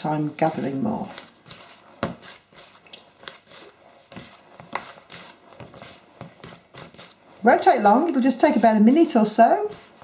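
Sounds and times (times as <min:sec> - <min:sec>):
fingertips rubbing fat into flour: 0:00.0 - 0:10.0.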